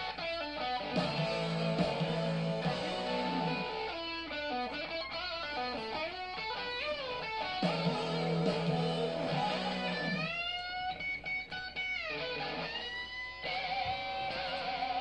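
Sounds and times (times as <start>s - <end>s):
rock band playing: 0.0s - 15.0s
sliding electric guitar lead: 0.0s - 15.0s.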